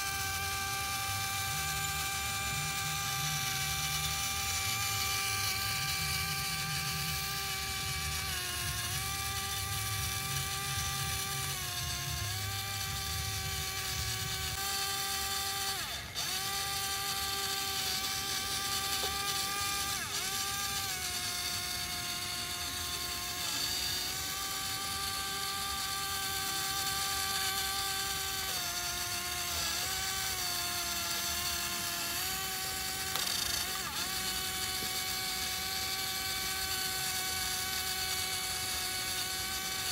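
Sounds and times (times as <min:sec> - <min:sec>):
toy electric motor whining: 0:00.0 - 0:39.9.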